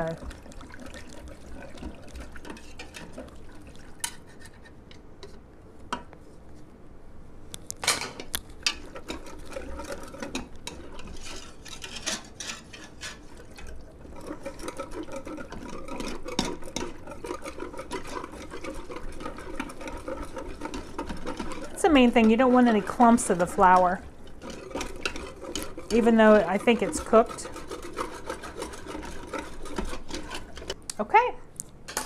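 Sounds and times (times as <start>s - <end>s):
whisk clicking and scraping a pot: 0.0s - 6.4s, 7.5s - 30.9s
wooden spoon stirring in metal pot: 0.0s - 6.7s, 8.0s - 30.8s.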